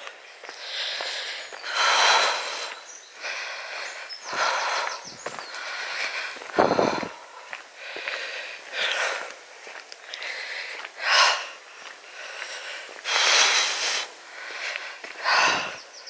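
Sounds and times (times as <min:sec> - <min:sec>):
person breathing hard: 0:00.5 - 0:16.0.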